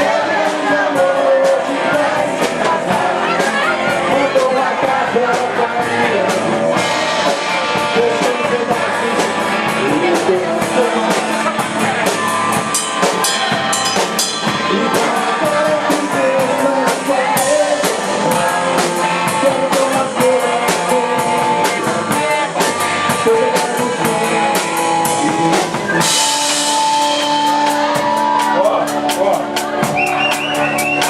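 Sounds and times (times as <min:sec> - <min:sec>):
rock band playing instrumental: 0:00.0 - 0:31.0.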